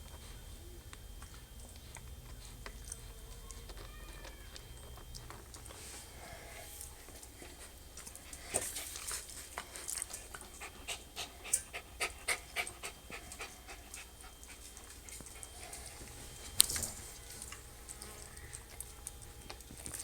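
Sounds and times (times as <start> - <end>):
puppies crunching kibble: 0.0 - 20.0.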